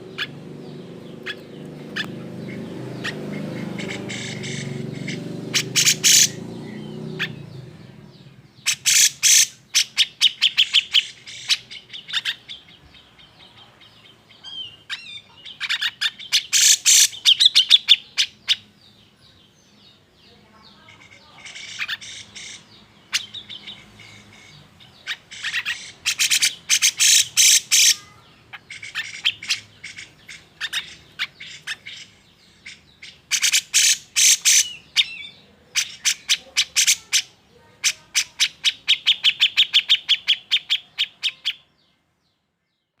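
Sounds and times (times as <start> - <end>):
bird calling in sharp bursts: 0.0 - 7.8, 8.6 - 12.7, 14.4 - 18.8, 20.9 - 41.7.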